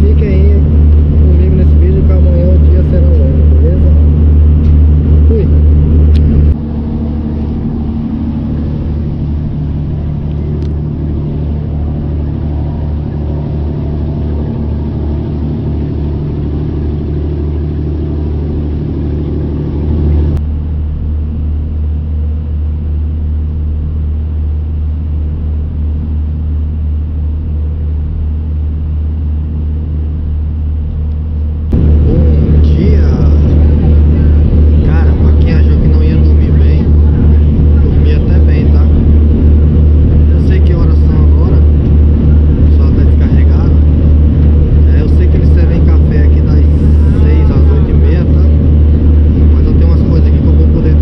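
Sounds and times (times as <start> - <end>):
boat diesel engine droning: 0.0 - 51.0.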